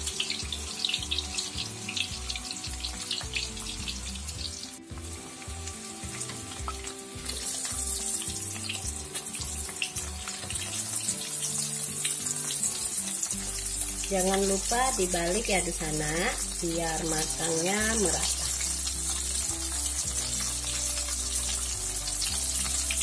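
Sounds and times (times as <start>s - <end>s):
food deep-frying in hot oil: 0.0s - 23.0s.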